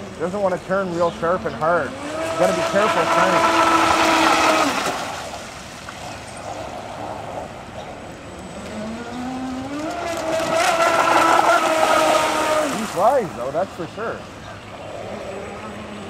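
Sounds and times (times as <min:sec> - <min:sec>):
model speedboat motor whining: 0:00.0 - 0:05.3, 0:06.5 - 0:16.0.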